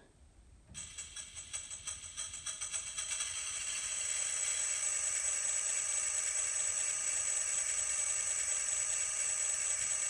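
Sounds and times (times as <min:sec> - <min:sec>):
tinny locomotive engine sound: 0:00.8 - 0:10.0.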